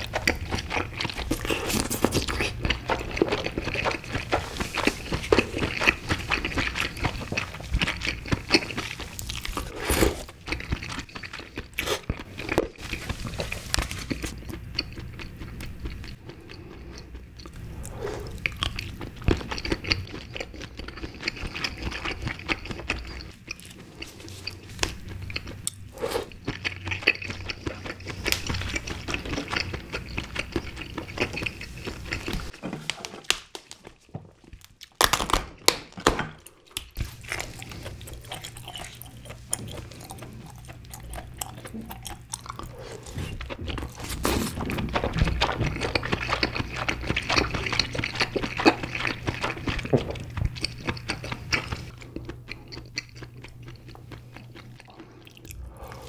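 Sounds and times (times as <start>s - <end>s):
person chewing crab meat: 0.0s - 56.0s.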